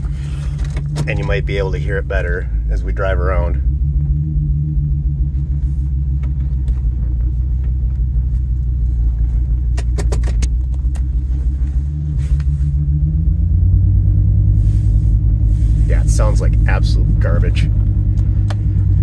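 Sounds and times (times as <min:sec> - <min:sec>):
misfiring engine running: 0:00.0 - 0:19.0.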